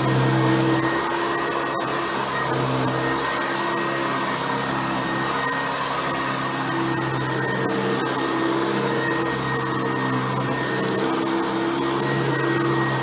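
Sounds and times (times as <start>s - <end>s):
upright vacuum cleaner running: 0.0s - 13.0s.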